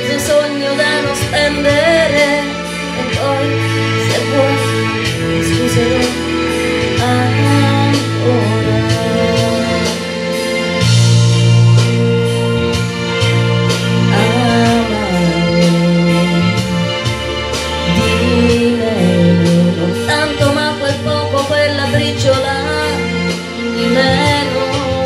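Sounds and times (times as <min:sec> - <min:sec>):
woman singing into microphone: 0:00.0 - 0:10.9, 0:14.0 - 0:25.0
pop ballad backing music: 0:00.0 - 0:25.0.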